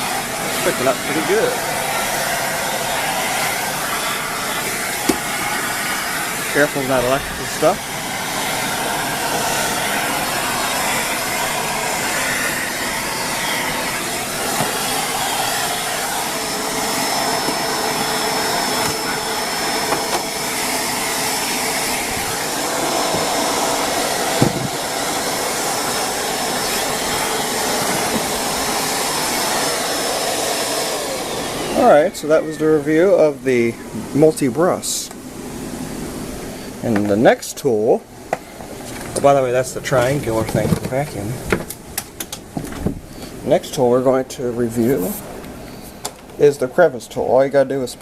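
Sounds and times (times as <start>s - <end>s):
vacuum cleaner running: 0.0s - 47.3s.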